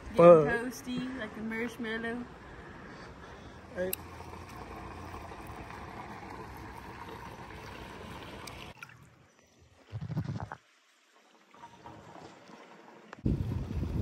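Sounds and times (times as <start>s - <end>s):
pool water rushing and trickling: 0.0s - 14.0s.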